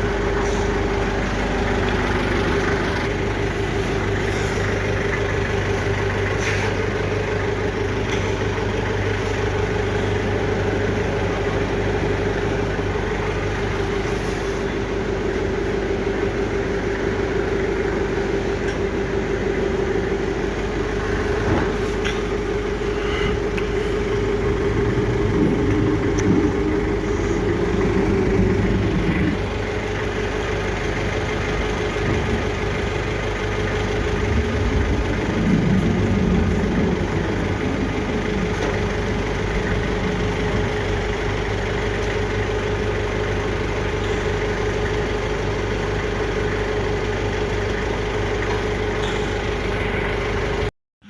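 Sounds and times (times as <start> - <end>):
motor humming: 0.0 - 43.2.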